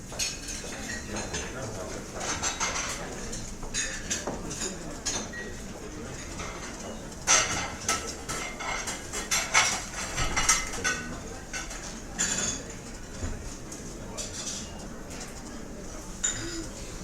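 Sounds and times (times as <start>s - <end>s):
room murmur: 0.0s - 17.0s
cutlery and dishes clinking: 0.1s - 15.5s, 16.2s - 17.0s.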